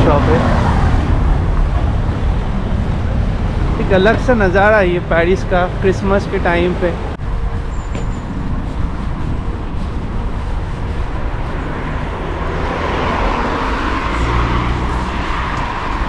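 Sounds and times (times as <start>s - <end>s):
road vehicles passing: 0.0s - 16.0s.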